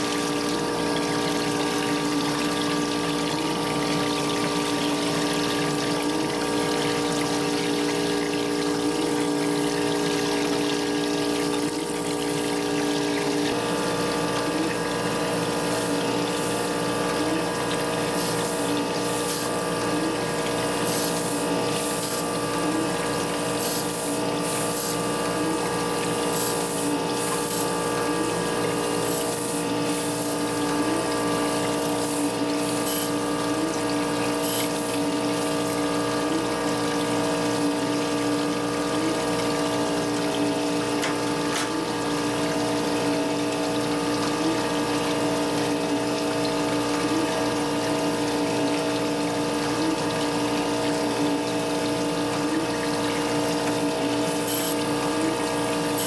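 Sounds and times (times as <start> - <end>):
coolant splashing: 0.0 - 56.0.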